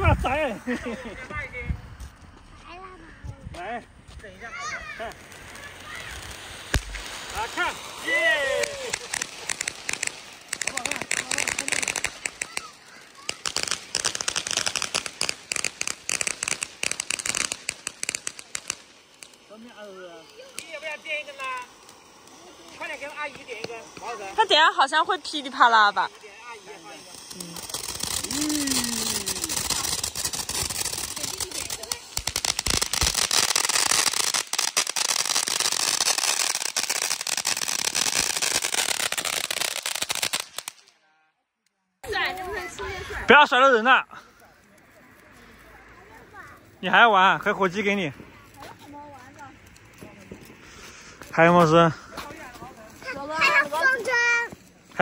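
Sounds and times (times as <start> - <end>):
small fireworks crackling: 0.0 - 55.0.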